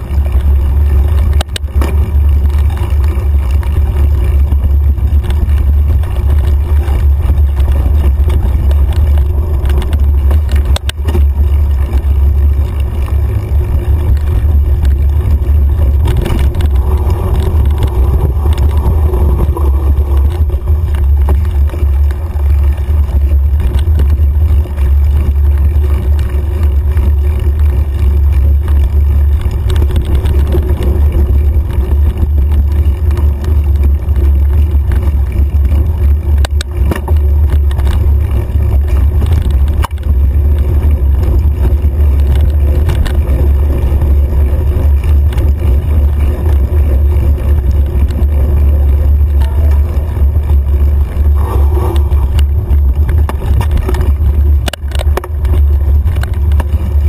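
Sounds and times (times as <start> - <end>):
wind and trail vibration rumble: 0.0 - 57.0.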